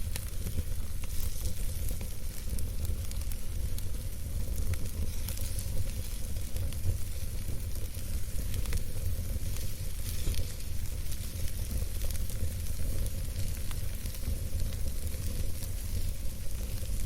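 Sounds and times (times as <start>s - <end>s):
burning wood crackling and popping: 0.0s - 17.0s
campfire rumble and hiss: 0.0s - 17.0s.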